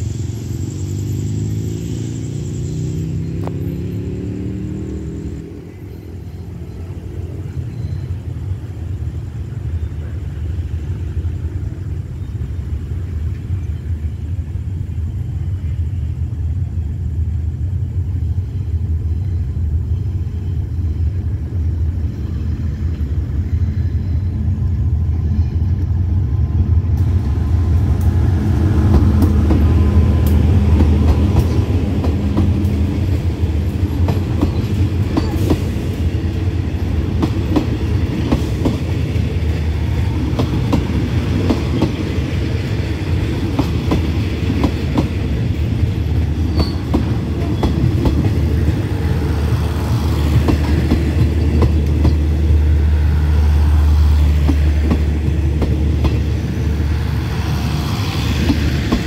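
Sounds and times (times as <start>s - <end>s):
locomotive rumble: 0.0s - 59.0s
train wheels on rails: 0.0s - 59.0s.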